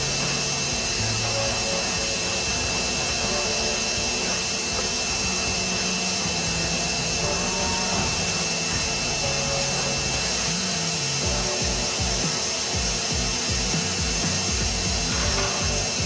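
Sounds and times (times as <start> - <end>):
wet vac running: 0.0 - 16.0.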